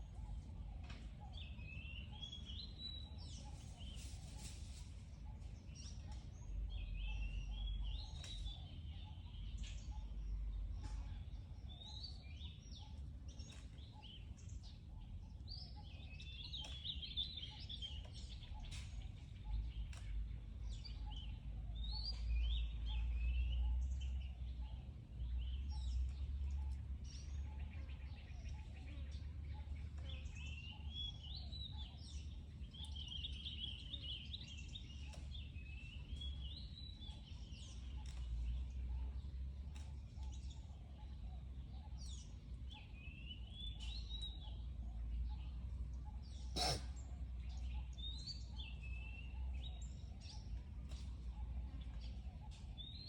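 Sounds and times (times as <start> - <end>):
birds chirping: 0.0 - 53.0
low outdoor rumble: 0.0 - 53.0.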